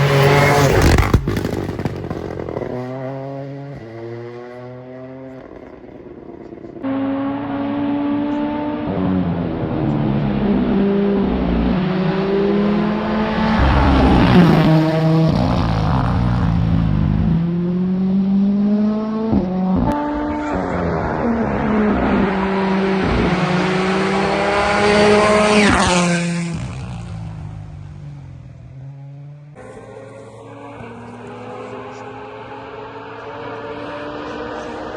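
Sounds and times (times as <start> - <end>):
rally car engine at full throttle: 0.0 - 34.9.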